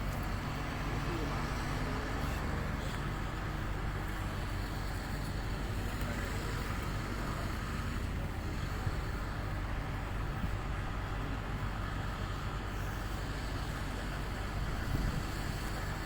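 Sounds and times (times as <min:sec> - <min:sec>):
engine humming steadily: 0:00.0 - 0:16.0
outdoor background noise: 0:00.0 - 0:16.0.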